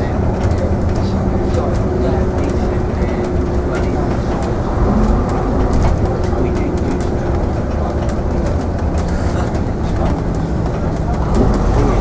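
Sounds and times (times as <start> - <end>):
bodywork clicks and rattles: 0.0 - 12.0
bus diesel engine rumbling: 0.0 - 12.0.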